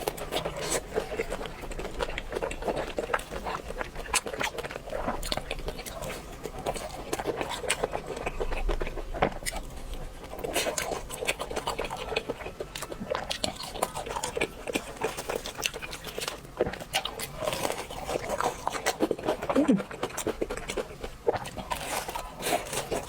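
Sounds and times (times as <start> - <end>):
chewing crispy fried food: 0.0 - 23.0.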